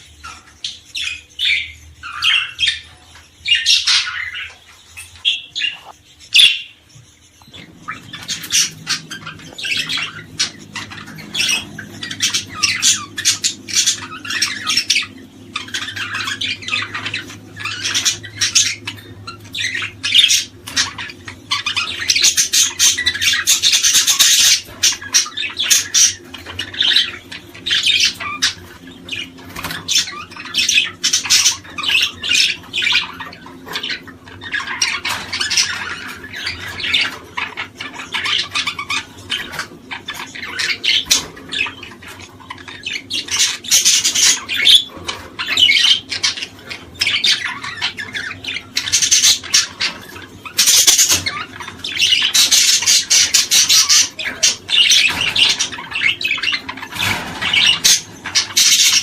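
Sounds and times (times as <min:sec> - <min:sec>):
small birds chirping and squawking: 0:00.0 - 0:59.0.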